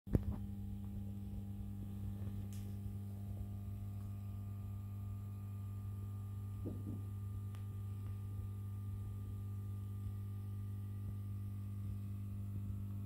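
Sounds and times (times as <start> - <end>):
electrical mains hum: 0.1 - 13.0.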